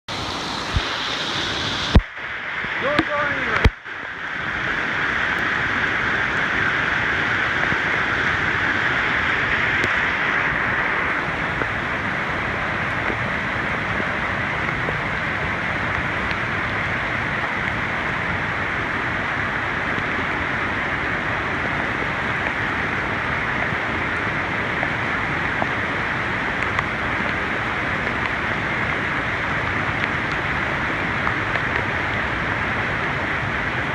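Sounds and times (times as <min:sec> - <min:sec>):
floodwater rushing: 0:00.1 - 0:33.9.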